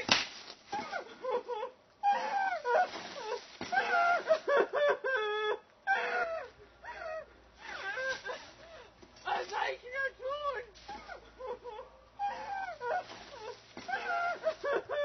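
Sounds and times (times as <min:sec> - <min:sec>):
person wailing and whimpering: 0:00.8 - 0:08.4, 0:10.2 - 0:15.0.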